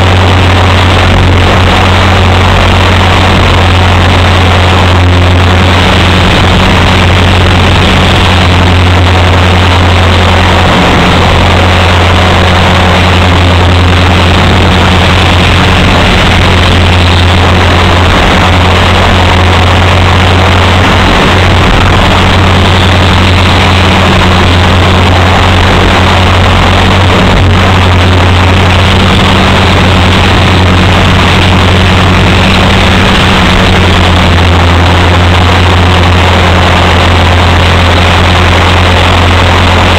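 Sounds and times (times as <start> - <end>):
rc helicopter rotor and motor drone: 0.0 - 39.9.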